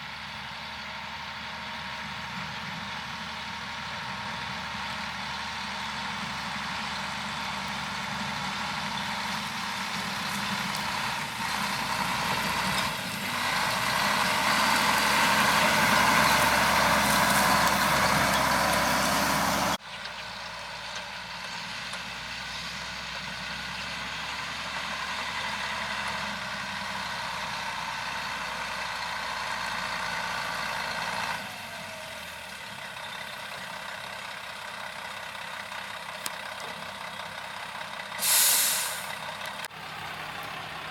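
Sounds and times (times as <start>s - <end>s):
diesel machinery engines running: 0.0s - 40.9s.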